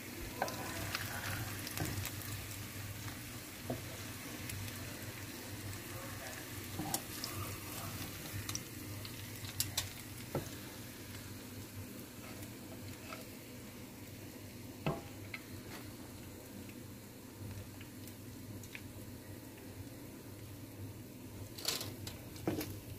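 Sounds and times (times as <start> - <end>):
hot oil sizzling in a frying pan: 0.0 - 22.9.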